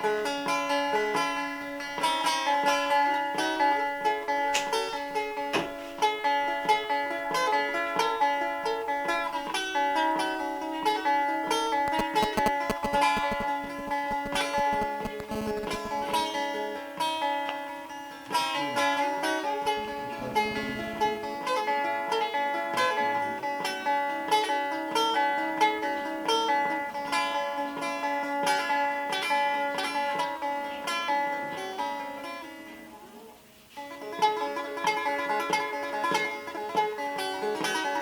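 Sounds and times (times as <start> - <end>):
long-necked lute plucked and strummed: 0.0 - 38.0.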